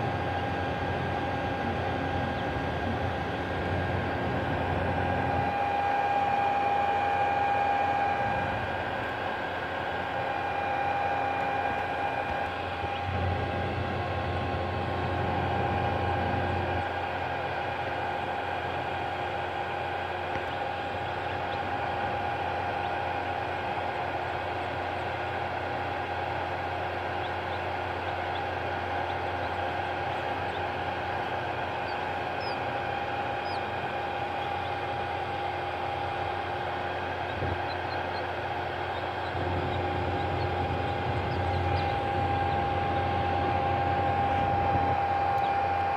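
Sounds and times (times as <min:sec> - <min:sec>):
mechanical hum with hiss: 0:00.0 - 0:45.9.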